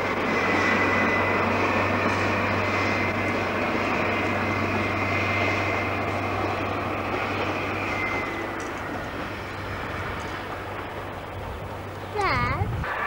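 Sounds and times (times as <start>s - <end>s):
rail noise with high whistle: 0.0s - 12.1s, 12.7s - 13.0s
diesel train passing at speed: 0.0s - 13.0s.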